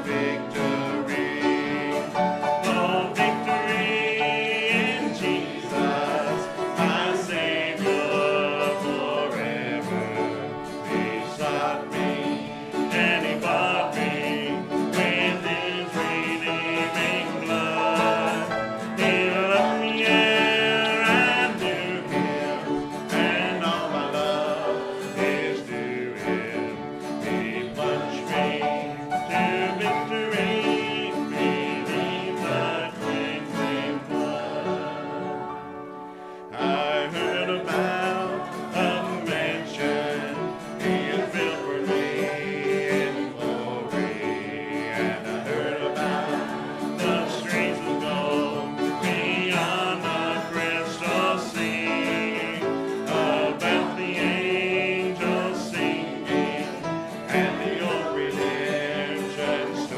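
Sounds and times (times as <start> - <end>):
person singing worship song: 0.0 - 59.9
strummed acoustic guitar: 0.0 - 59.9.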